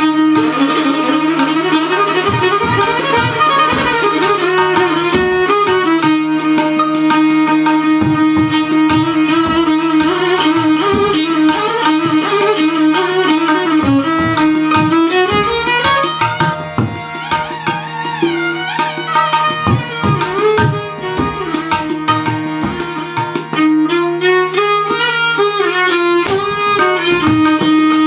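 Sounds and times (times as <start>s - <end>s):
tabla: 0.0s - 28.0s
violin playing slow melody: 0.0s - 28.0s.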